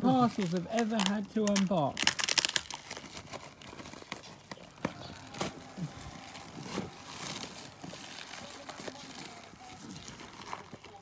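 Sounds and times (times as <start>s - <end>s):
packaging being torn open: 0.2s - 11.0s.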